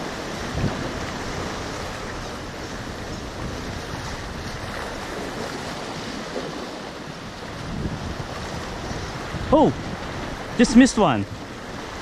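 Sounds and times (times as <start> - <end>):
small waves washing over rocks: 0.0 - 12.0
wind buffeting the microphone: 0.0 - 12.0.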